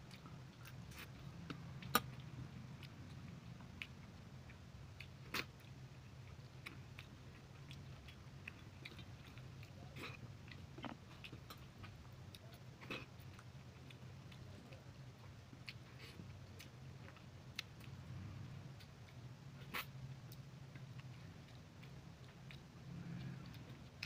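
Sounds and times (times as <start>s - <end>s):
low steady hum: 0.0s - 24.0s
person chewing: 0.1s - 14.5s, 18.8s - 24.0s.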